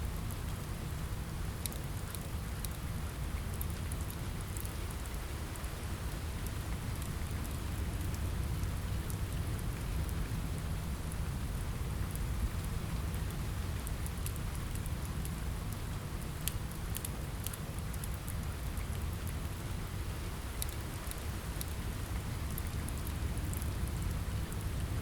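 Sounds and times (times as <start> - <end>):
rain on a window: 0.0 - 25.0
wood fire crackling: 0.1 - 25.0.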